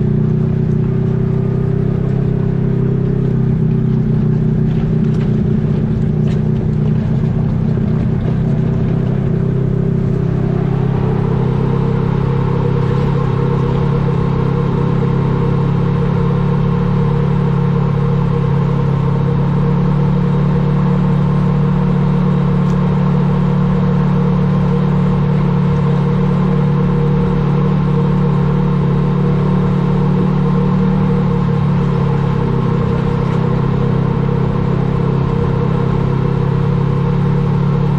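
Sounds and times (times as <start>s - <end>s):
vehicle engine running: 0.0s - 37.9s.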